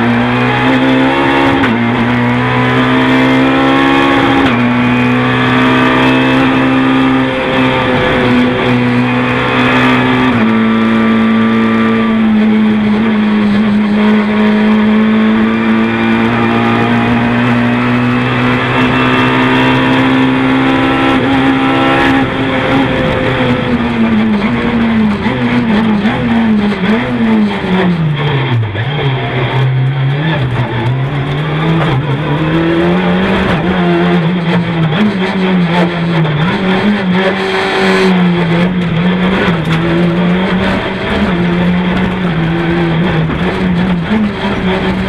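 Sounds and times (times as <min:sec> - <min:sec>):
rally car engine at full throttle: 0:00.0 - 0:45.0.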